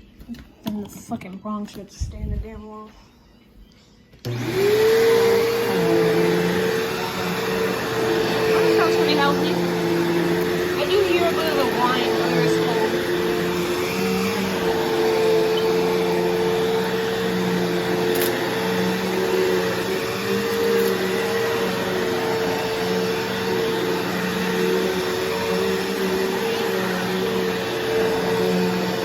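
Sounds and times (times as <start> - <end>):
upright vacuum cleaner running: 4.2 - 29.0.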